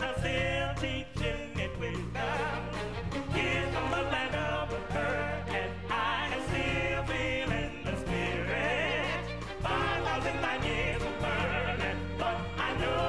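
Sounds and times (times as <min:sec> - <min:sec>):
big band and orchestra: 0:00.0 - 0:13.0
low bass notes: 0:00.0 - 0:13.0
male vocal trio singing: 0:00.0 - 0:13.0.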